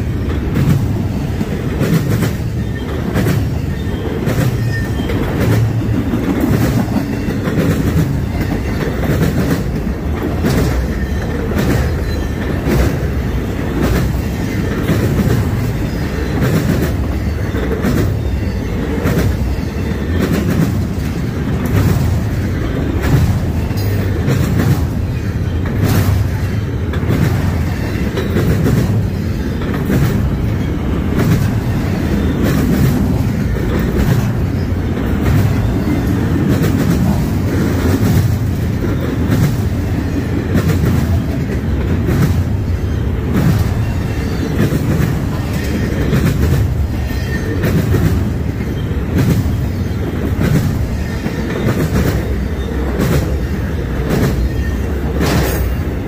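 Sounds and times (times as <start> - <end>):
freight train cars rumbling: 0.0 - 56.0
wheels clicking over rail joints: 0.0 - 56.0.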